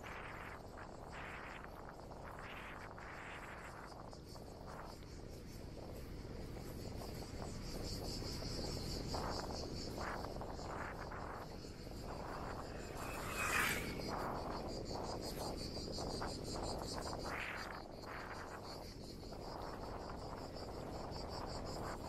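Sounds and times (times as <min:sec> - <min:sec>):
insects chirring: 0:00.0 - 0:22.0
wind and riding noise: 0:00.0 - 0:22.0.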